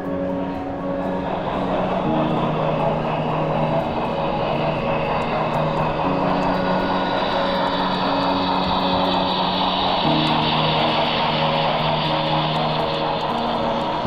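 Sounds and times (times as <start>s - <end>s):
model train running on track: 0.0s - 14.0s
soft piano music: 0.0s - 14.0s.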